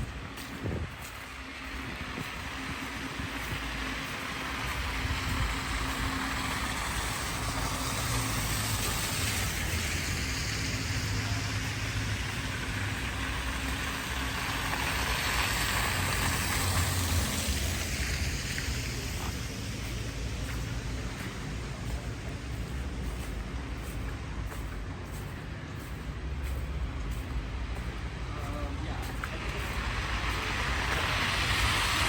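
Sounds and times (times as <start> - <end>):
passing vehicle engines: 0.0 - 32.0.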